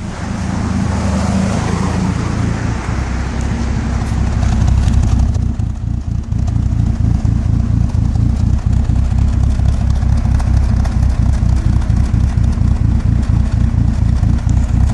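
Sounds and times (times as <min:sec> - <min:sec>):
vehicle engine idling roughly: 0:02.3 - 0:14.9.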